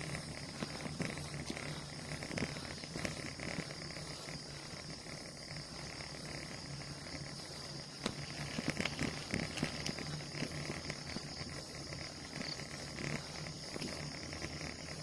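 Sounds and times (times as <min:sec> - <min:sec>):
bicycle ride rushing noise: 0:00.0 - 0:15.0.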